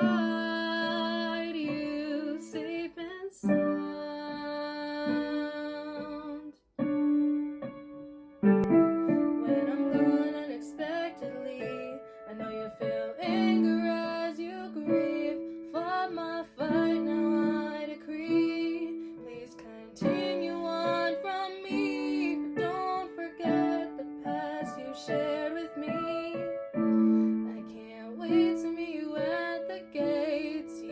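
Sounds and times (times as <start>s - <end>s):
woman singing wordlessly: 0.0s - 6.6s, 9.1s - 30.9s
piano chords: 0.0s - 30.9s.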